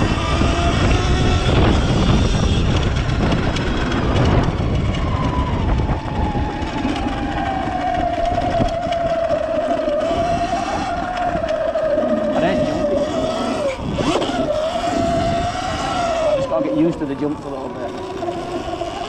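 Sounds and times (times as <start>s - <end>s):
electric motor whine: 0.0s - 19.0s
low rumble of dirt bike: 0.0s - 19.0s.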